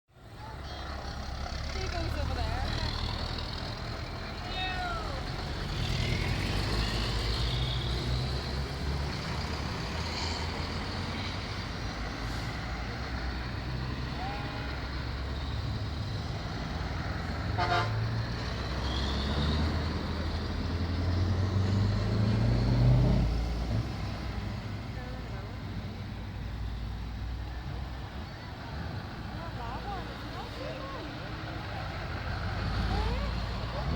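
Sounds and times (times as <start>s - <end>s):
truck engines rumbling: 0.1s - 33.9s.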